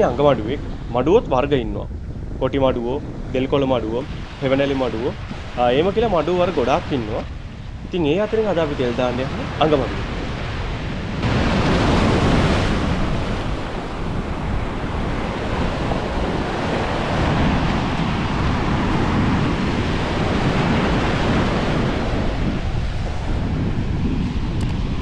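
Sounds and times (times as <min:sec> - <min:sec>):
wind on microphone: 0:00.0 - 0:25.0
sea surf breaking: 0:02.5 - 0:25.0.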